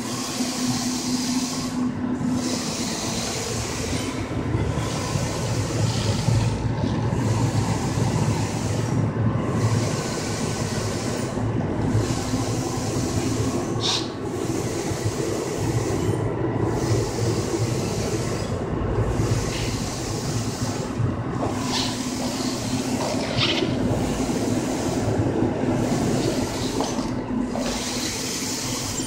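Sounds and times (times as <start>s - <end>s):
printer running with mechanical hum: 0.0s - 29.0s.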